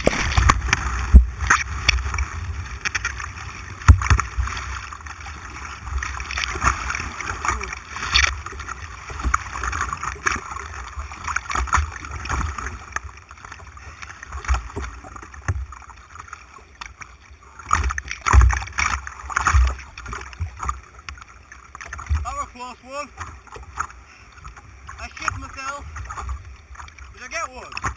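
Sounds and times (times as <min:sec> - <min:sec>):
paddle splashes: 0:00.0 - 0:27.9
rushing white water: 0:00.0 - 0:27.9.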